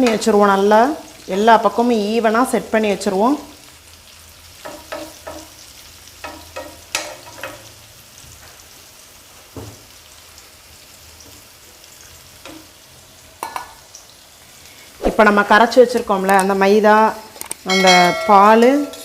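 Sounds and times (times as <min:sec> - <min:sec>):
vegetables frying in a pan: 0:00.0 - 0:19.0.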